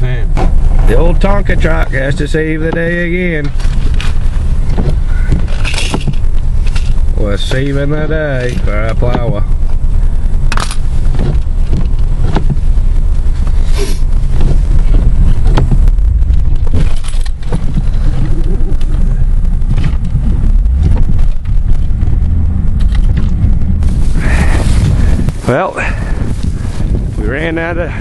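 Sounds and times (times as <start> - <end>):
truck engine rumble: 0.0 - 28.0
clicks and scrapes near microphone: 0.3 - 27.8.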